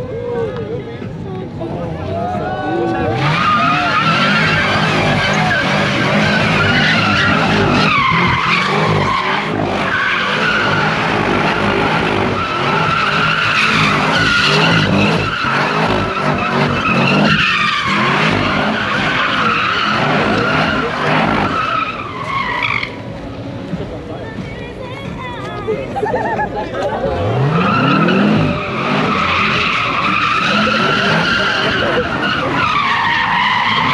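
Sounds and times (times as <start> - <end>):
tires squealing: 0.0 - 25.2, 26.1 - 33.9
car engines running: 0.0 - 33.9.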